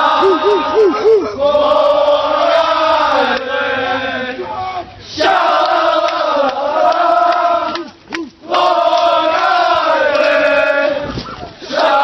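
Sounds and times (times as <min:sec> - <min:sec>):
crowd chanting in unison: 0:00.0 - 0:12.0.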